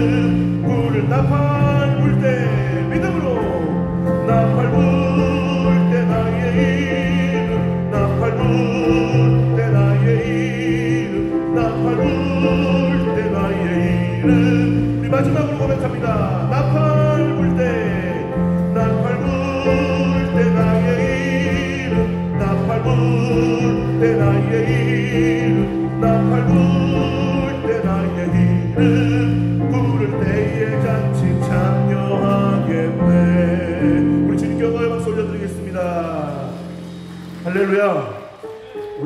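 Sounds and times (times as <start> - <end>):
worship band playing: 0.0 - 39.0.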